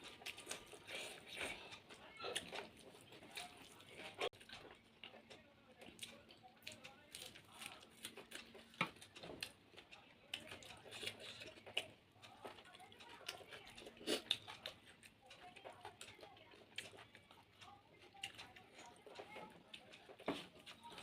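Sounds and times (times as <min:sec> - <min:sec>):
wet chewing and smacking: 0:00.0 - 0:21.0.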